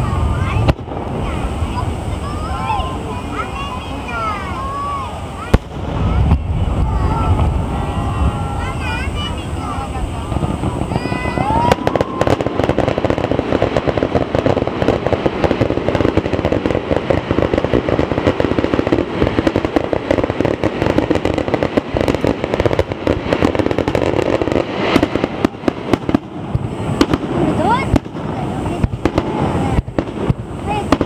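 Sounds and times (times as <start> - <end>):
fireworks bangs and crackles: 0.0 - 31.0
rising firework whistle: 0.0 - 31.0.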